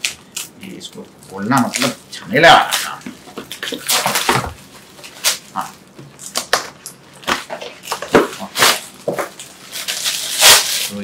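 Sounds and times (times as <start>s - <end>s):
shrink-wrap crinkling: 0.0s - 11.0s.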